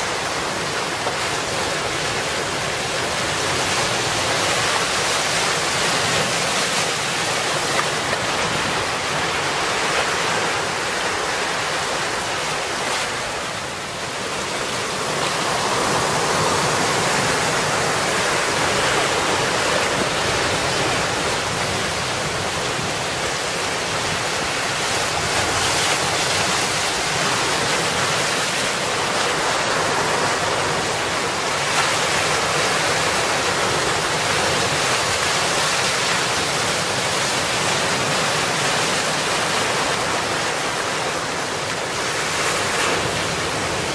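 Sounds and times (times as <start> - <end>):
sea waves breaking on rocks: 0.0 - 43.9.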